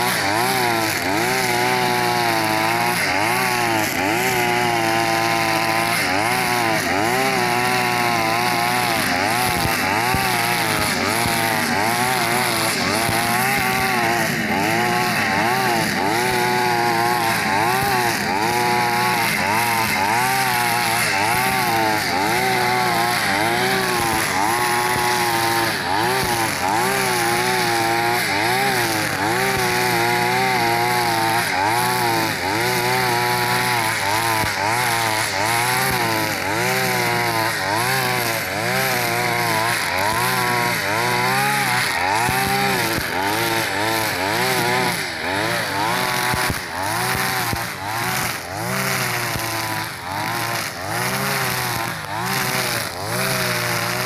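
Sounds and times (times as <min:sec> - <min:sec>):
brush cutter engine cutting grass: 0:00.0 - 0:54.0.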